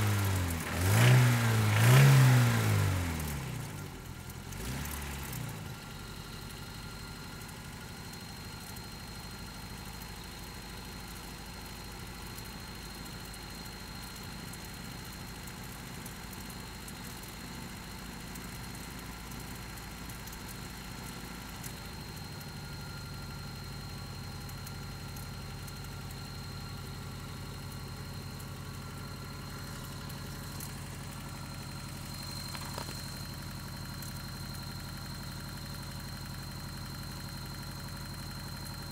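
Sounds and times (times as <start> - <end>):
engine idling: 0.0 - 38.9
faint engine ticking: 0.0 - 38.9.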